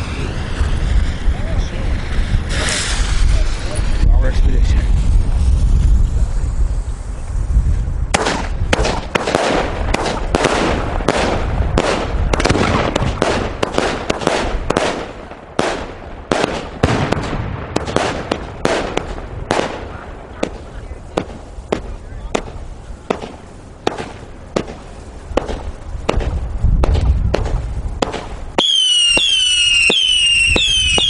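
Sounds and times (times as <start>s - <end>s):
firework shots crackling: 0.0s - 7.2s, 8.0s - 31.0s.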